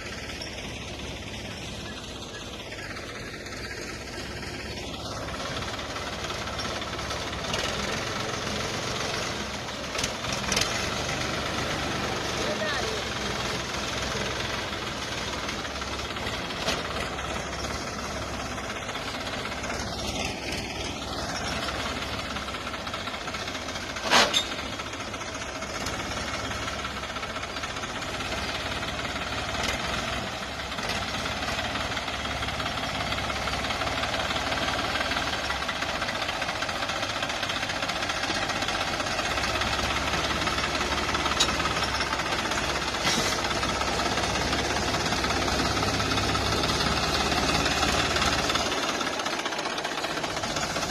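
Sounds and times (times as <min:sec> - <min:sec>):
diesel tractor engine running: 0:00.0 - 0:50.9.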